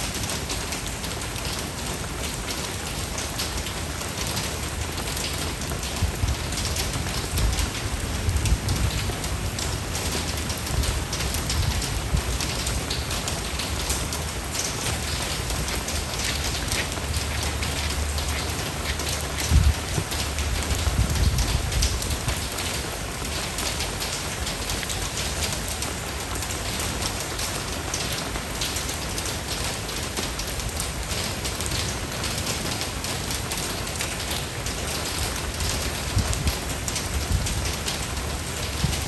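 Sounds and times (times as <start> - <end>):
steady rain with drop hits: 0.0 - 39.0.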